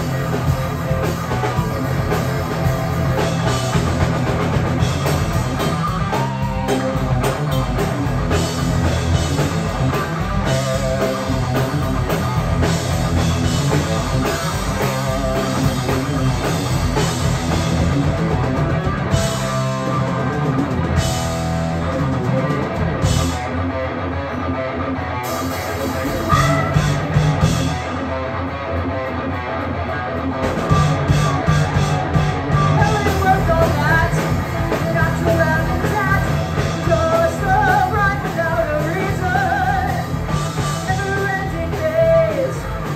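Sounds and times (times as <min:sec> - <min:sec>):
drum kit: 0:00.0 - 0:23.8, 0:24.4 - 0:42.9
bass guitar: 0:00.0 - 0:42.9
electric guitar: 0:00.0 - 0:42.9.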